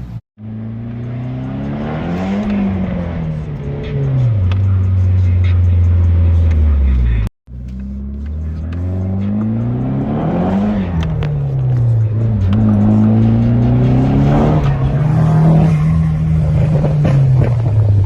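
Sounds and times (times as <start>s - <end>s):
turbocharged engine revving: 0.0s - 18.0s.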